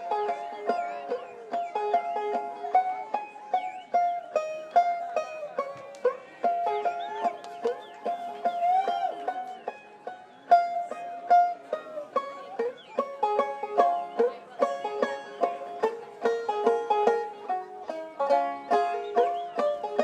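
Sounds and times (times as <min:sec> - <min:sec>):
plucked string instrument music: 0:00.0 - 0:20.0.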